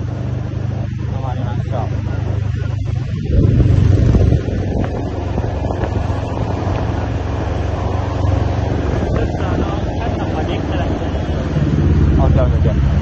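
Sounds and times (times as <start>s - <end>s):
road noise: 0.0s - 13.0s
vehicle engine cruising: 0.0s - 13.0s
wind rushing over microphone: 0.0s - 13.0s.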